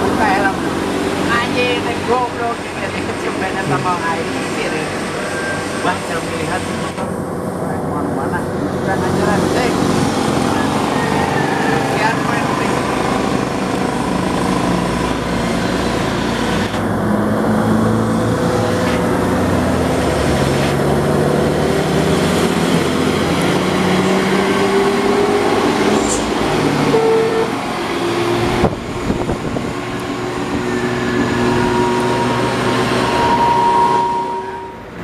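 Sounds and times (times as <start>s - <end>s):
truck diesel engines labouring: 0.0s - 35.0s.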